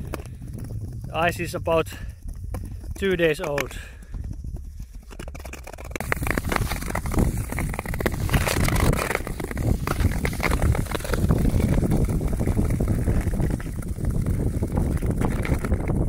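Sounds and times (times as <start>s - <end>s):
wind buffeting microphone: 0.0s - 16.0s
skate blades scraping on ice: 2.5s - 16.0s.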